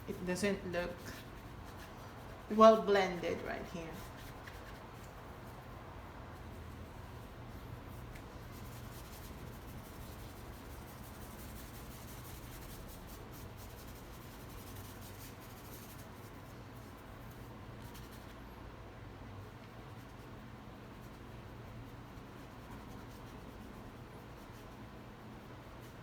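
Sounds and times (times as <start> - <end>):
paintbrush scratching and brushing: 0.0 - 18.4, 19.4 - 26.0
low steady hum: 0.0 - 26.0.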